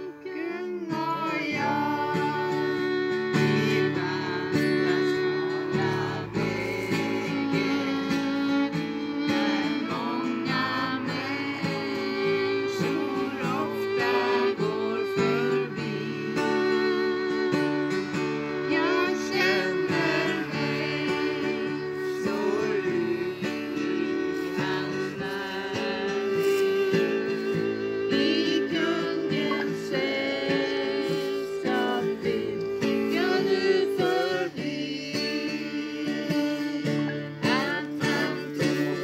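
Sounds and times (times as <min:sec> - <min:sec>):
acoustic guitar strumming: 0:00.0 - 0:39.0
two women singing: 0:00.0 - 0:39.0
violin playing: 0:00.0 - 0:39.0.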